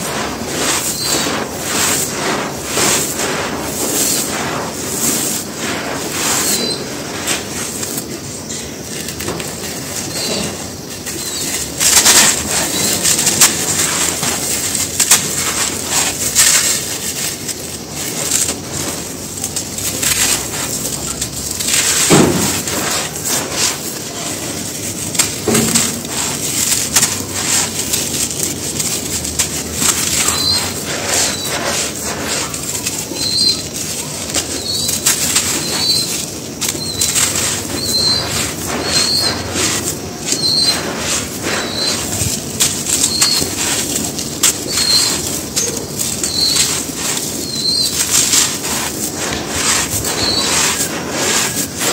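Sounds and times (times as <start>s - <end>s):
hands sifting gritty dry powder: 0.0s - 51.9s.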